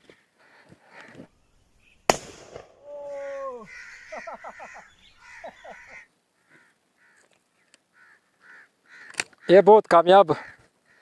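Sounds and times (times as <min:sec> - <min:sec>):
crow-like birds cawing: 0:00.0 - 0:01.7, 0:02.8 - 0:09.7, 0:10.3 - 0:11.0.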